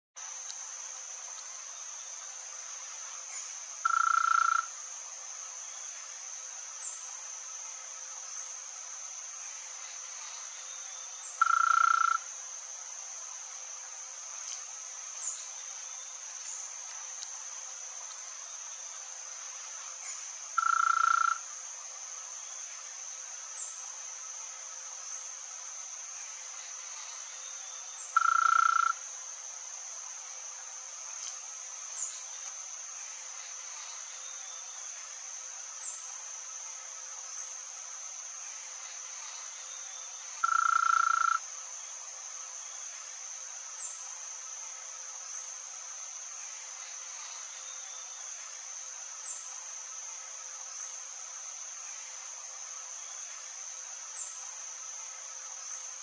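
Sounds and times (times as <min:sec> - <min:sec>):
insects droning: 0:00.2 - 0:56.0.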